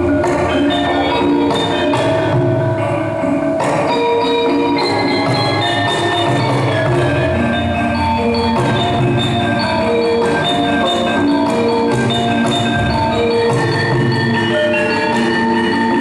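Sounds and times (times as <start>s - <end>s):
metallophones ringing: 0.0s - 16.0s.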